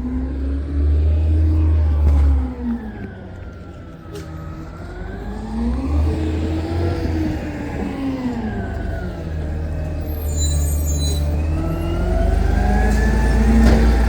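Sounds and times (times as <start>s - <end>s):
garbage truck engine revving: 0.0s - 14.0s.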